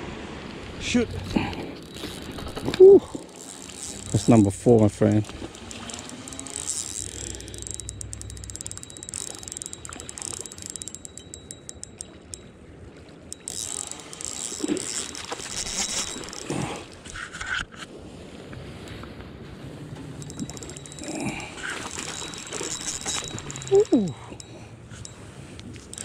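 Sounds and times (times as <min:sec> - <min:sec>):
fishing reel gears clicking: 0:01.7 - 0:12.5, 0:13.3 - 0:17.5, 0:20.1 - 0:26.0.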